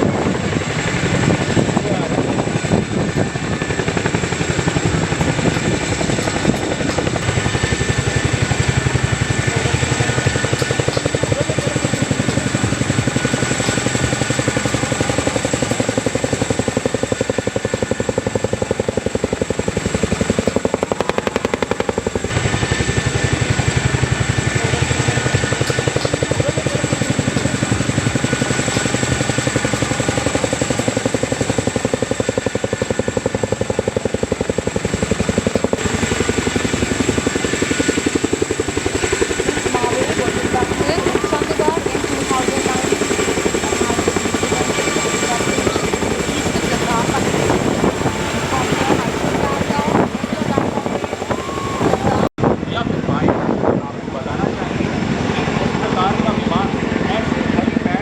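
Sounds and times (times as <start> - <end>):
helicopter rotor blades chopping: 0.0 - 58.0.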